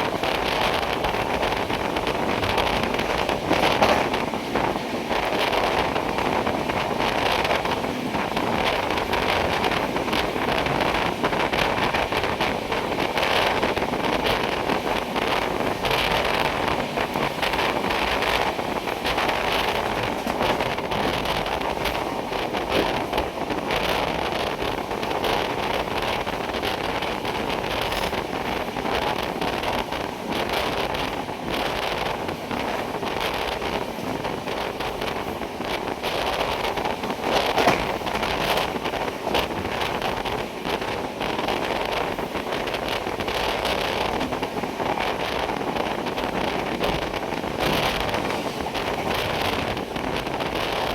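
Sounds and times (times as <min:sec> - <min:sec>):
train rumbling and rattling: 0:00.0 - 0:50.9
wind buffeting microphone: 0:00.0 - 0:50.9.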